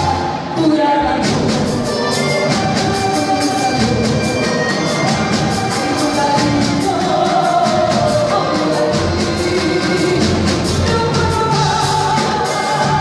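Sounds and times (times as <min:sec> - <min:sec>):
woman singing: 0:00.0 - 0:04.0, 0:05.6 - 0:13.0
live band playing pop song: 0:00.0 - 0:13.0.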